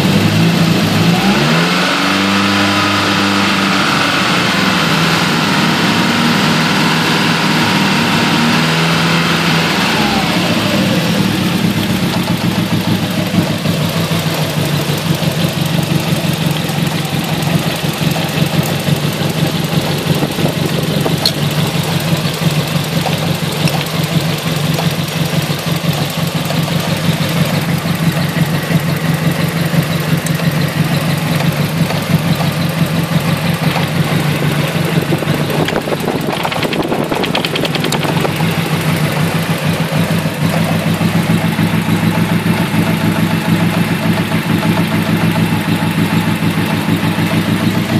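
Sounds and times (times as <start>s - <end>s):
engine idling with misfire: 0.0s - 47.9s.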